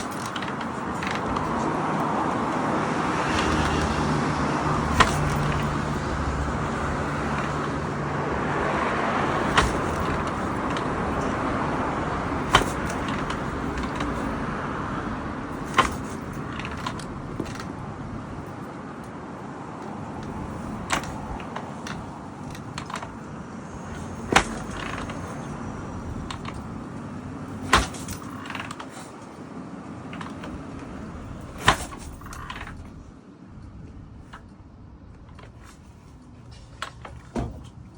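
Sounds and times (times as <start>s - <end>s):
steady background noise: 0.0s - 37.9s.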